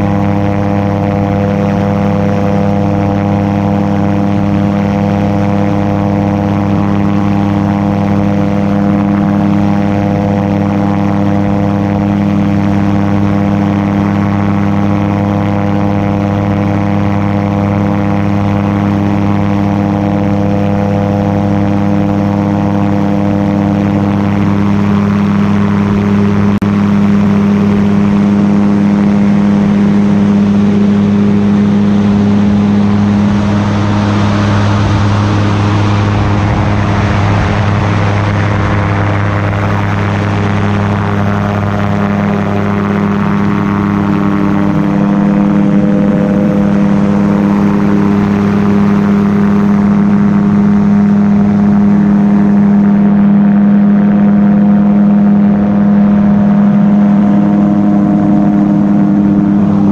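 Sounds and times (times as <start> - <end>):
drone propellers humming: 0.0 - 59.9.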